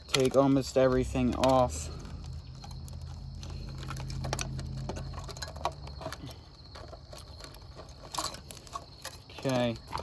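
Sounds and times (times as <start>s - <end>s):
hand tools clicking and tapping: 0.0s - 10.0s.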